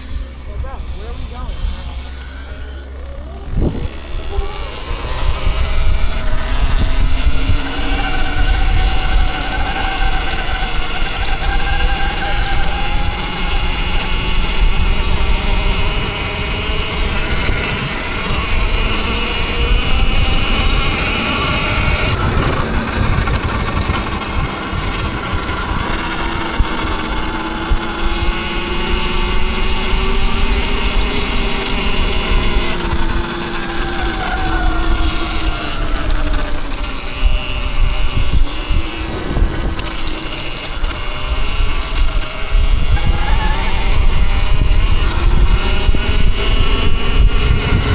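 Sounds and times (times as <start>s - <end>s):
electric dirt bike motors whining: 0.0s - 47.9s.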